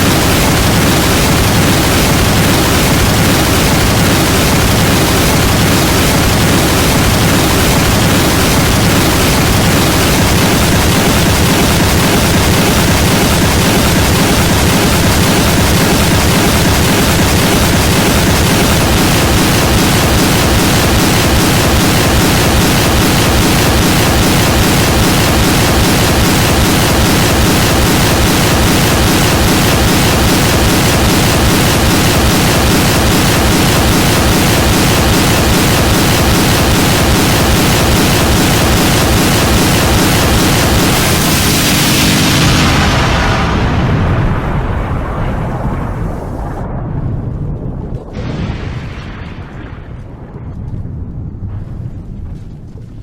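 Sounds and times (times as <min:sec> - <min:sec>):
fluttering static noise: 0:00.0 - 0:44.6.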